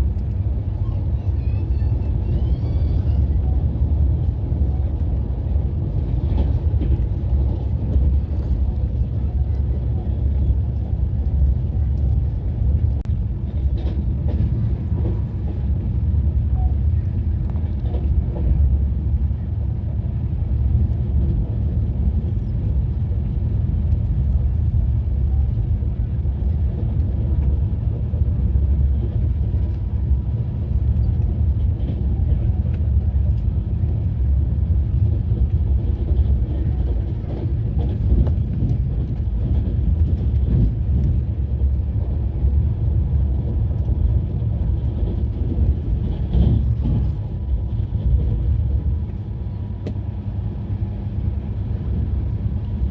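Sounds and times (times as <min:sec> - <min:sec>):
train rumble from inside coach: 0:00.0 - 0:52.9.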